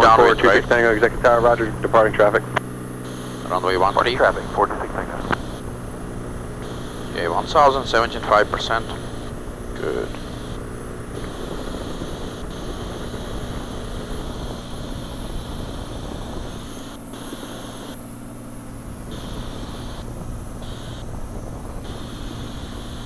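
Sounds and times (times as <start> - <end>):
aircraft engine and propeller droning: 0.0 - 23.0.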